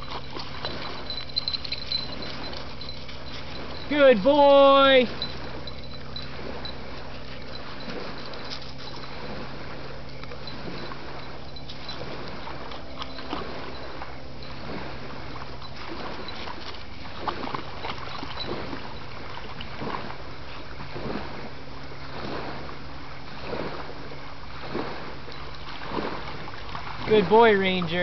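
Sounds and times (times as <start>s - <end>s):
dog splashing in water: 0.0s - 28.0s
steady low hum: 0.0s - 28.0s.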